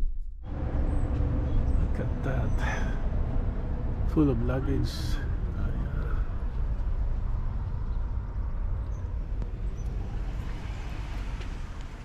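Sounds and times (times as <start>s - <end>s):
vehicle rumble: 0.4s - 12.0s.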